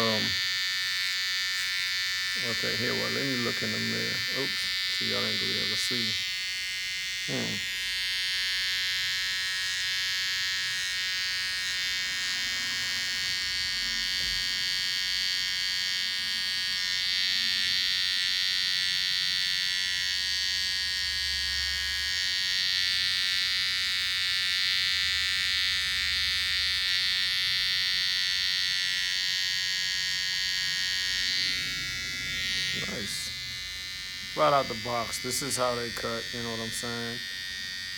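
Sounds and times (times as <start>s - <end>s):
hair trimmer buzzing: 0.0s - 37.9s.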